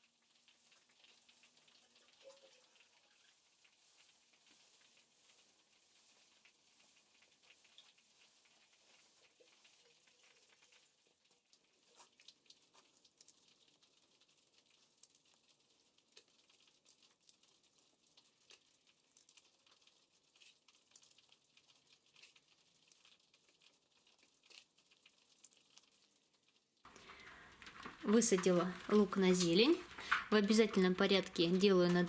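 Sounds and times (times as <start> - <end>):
faint light ticks and crackles: 0.0 - 32.0.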